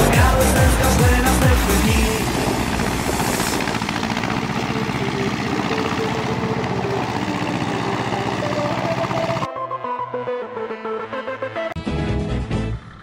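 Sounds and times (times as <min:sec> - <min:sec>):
tractor diesel engine running: 0:00.0 - 0:09.5, 0:11.8 - 0:13.0.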